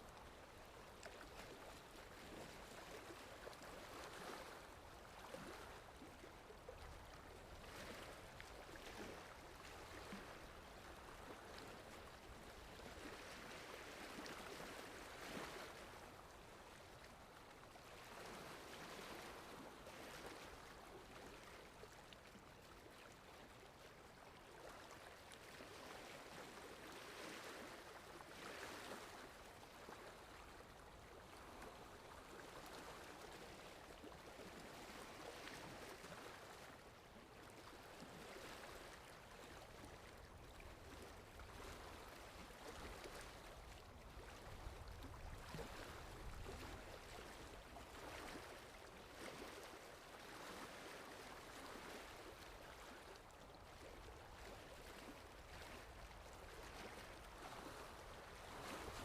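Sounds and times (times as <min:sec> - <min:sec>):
faint sea waves washing in: 0:00.0 - 0:59.0.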